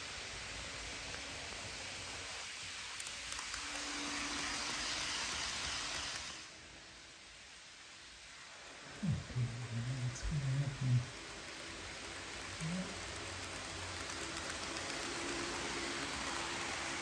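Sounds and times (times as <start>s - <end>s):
faint motor hum: 0.0s - 17.0s
model train wheels hissing on rails: 0.0s - 17.0s.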